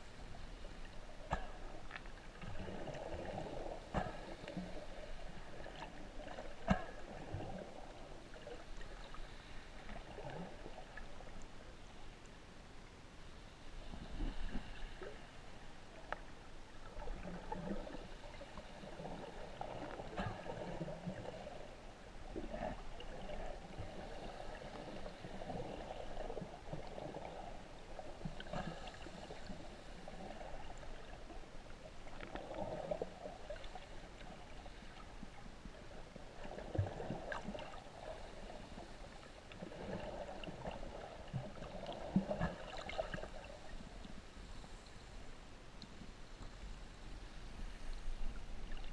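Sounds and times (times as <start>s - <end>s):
underwater sloshing and gurgling: 0.0s - 48.9s.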